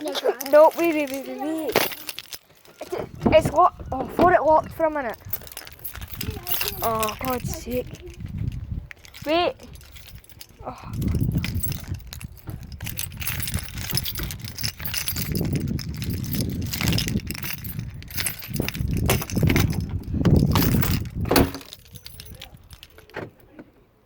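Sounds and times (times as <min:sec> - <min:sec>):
car keys jangling: 0:00.0 - 0:23.6
heavy rumbling handling noise: 0:00.0 - 0:23.7.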